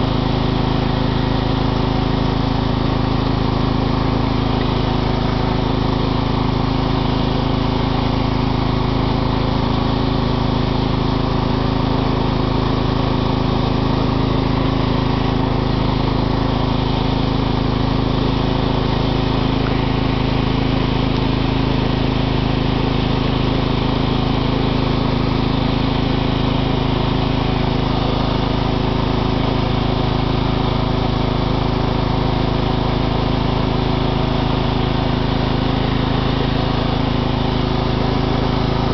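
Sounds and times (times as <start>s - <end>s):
riding lawn mower engine running: 0.0s - 38.9s.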